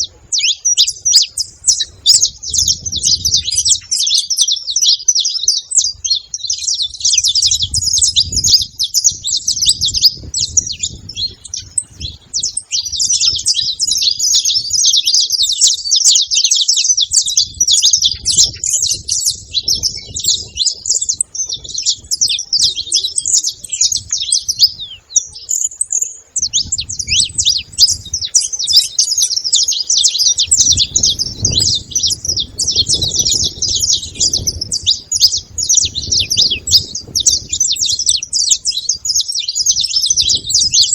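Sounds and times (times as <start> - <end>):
finches chirping: 0.0 - 40.9.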